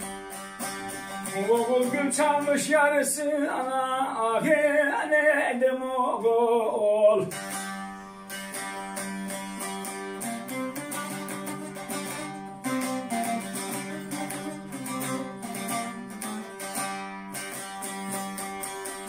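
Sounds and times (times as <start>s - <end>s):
long-necked lute picked solo: 0.0s - 19.0s.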